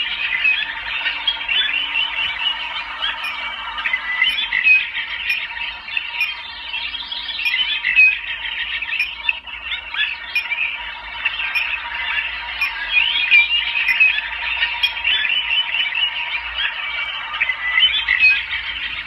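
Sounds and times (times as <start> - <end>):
faint steady tone: 0.0 - 16.9
recorded birds chirping: 0.0 - 19.0.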